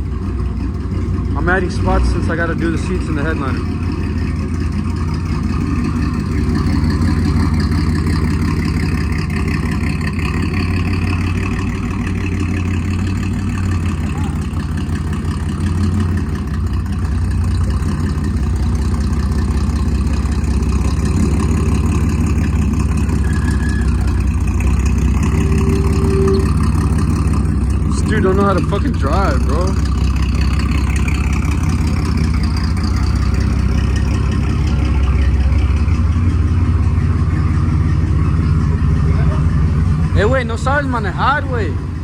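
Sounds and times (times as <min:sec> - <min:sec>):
pickup truck engine idling: 0:00.0 - 0:42.0.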